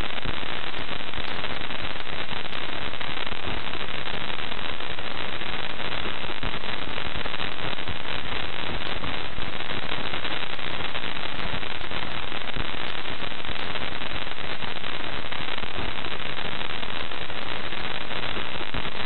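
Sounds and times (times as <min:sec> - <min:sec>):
crackling hiss with tiny pops: 0:00.0 - 0:19.0.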